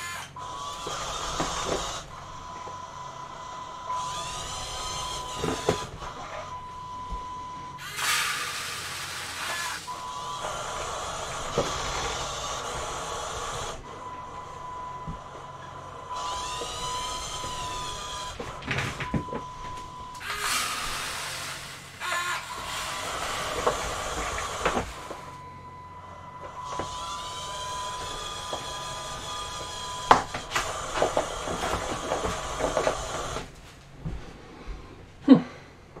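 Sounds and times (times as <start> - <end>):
toy gear motors whining: 0.0 - 33.6.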